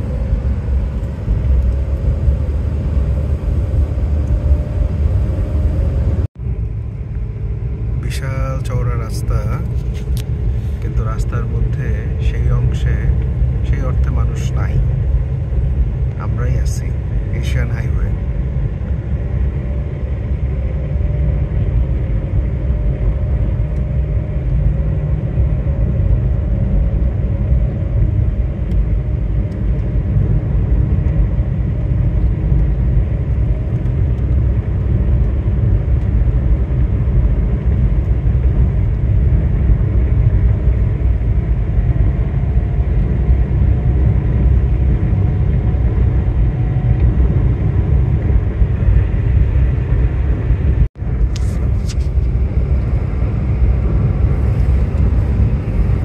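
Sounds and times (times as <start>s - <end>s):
moving vehicle rumble: 0.0s - 56.0s.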